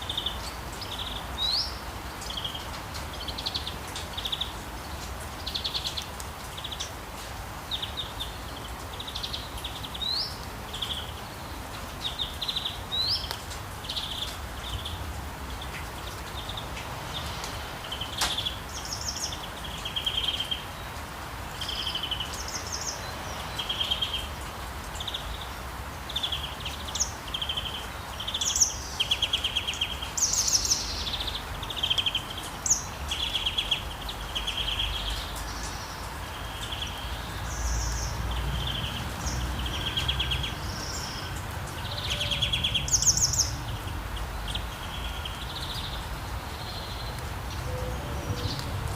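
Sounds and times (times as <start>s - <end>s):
light rain hiss: 0.0s - 48.9s
songbirds chirping: 0.0s - 48.9s.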